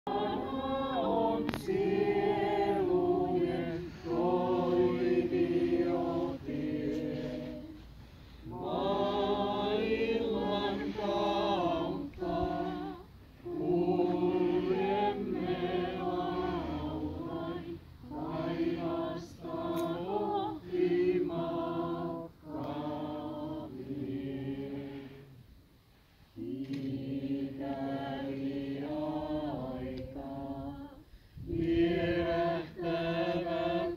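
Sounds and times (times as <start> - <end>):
group singing unaccompanied: 0.1 - 25.6, 26.3 - 33.9.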